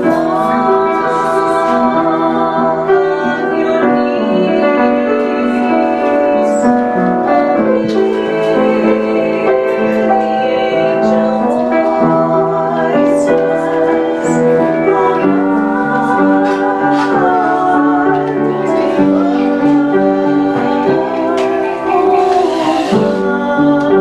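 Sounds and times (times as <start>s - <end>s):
voices singing with piano: 0.0s - 24.0s.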